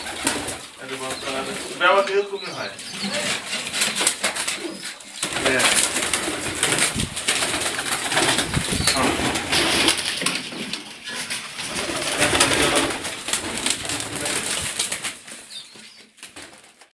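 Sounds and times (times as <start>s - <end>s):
pigeons cooing: 0.0s - 16.2s.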